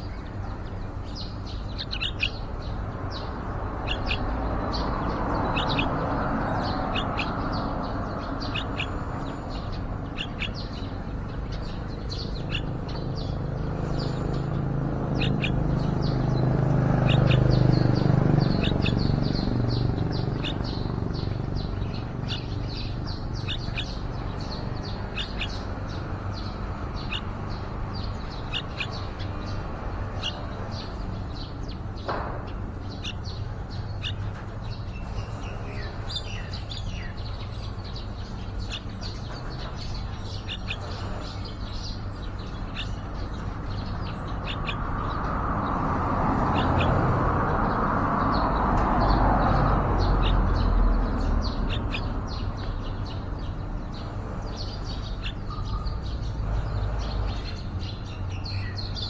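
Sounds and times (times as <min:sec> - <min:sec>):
bulbuls chirping: 0:00.0 - 0:59.0.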